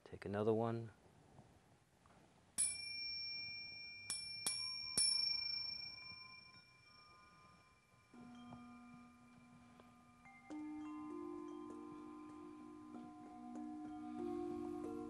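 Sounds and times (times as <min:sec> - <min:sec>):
singing bowl humming: 0:02.6 - 0:15.0
small high-pitched metal bell: 0:02.6 - 0:15.0.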